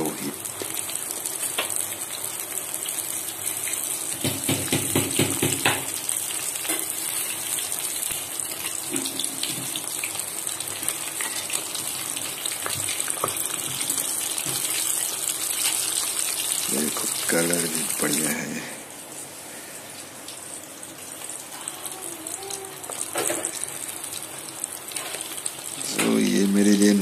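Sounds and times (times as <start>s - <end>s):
chicken deep-frying sizzle: 0.0s - 27.0s.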